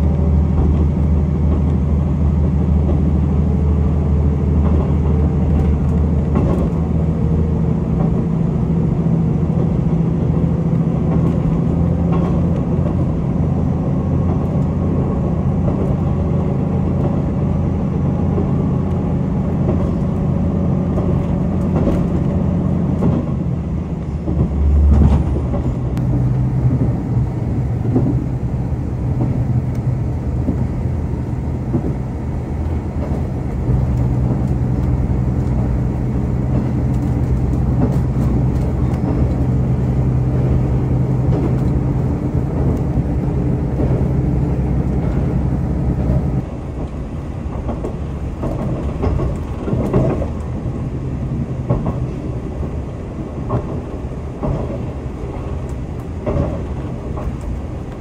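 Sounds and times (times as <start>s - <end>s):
diesel engine drone: 0.0s - 58.0s
wheels clicking over rail joints: 0.0s - 58.0s.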